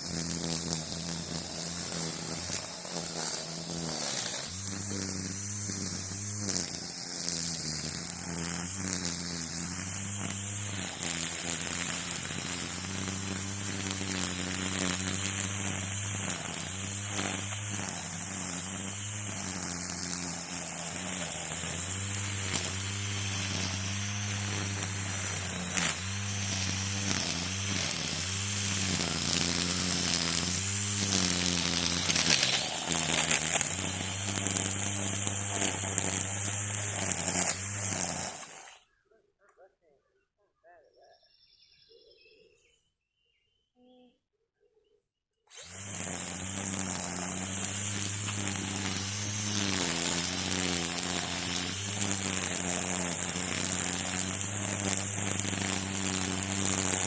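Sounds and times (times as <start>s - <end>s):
high whirring hiss: 0.0s - 38.8s, 45.6s - 57.0s
string trimmer engine revving: 0.0s - 38.8s, 45.5s - 57.0s.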